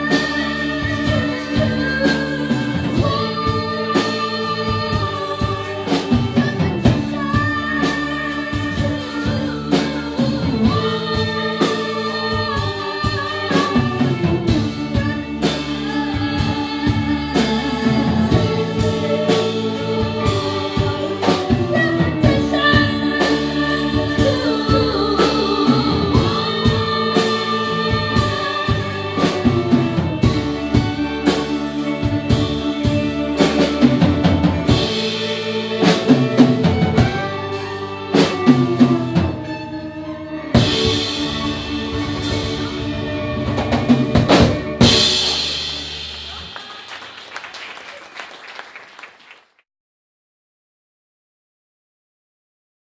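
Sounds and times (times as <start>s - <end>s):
live band playing: 0.0s - 49.5s.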